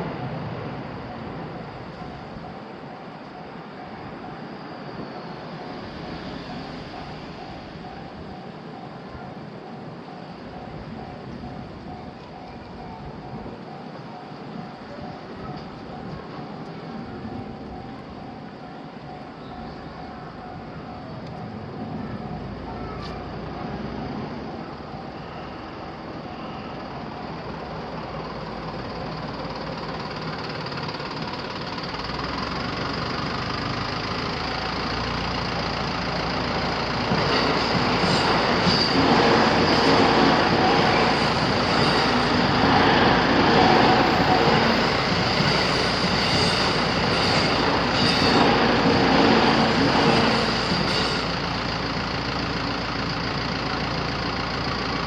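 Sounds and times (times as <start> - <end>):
train passing: 0.0 - 55.0.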